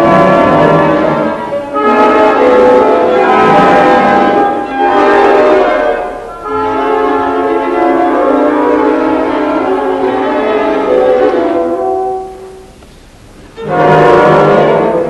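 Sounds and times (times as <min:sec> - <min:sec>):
orchestra playing atonal chords: 0:00.0 - 0:15.0.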